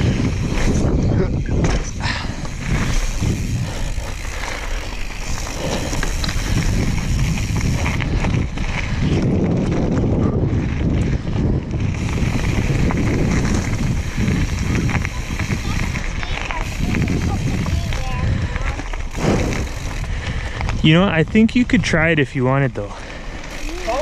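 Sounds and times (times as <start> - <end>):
bike tyre and frame noise: 0.0 - 24.0
wind buffeting microphone: 0.0 - 24.0.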